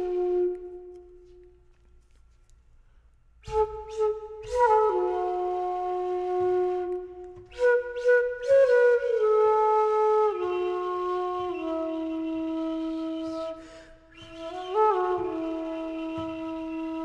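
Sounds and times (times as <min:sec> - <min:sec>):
solo flute playing: 0:00.0 - 0:01.8, 0:03.4 - 0:17.0.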